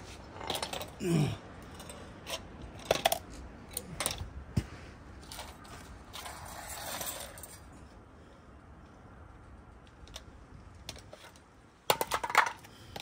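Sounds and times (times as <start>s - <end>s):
rustle: 0.0s - 13.0s.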